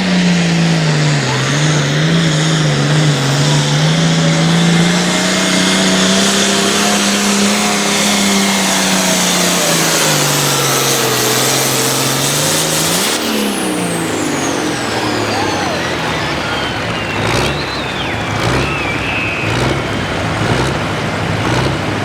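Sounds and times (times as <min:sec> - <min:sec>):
high whine: 0:00.0 - 0:21.5
tractor diesel engine running hard: 0:00.0 - 0:22.0.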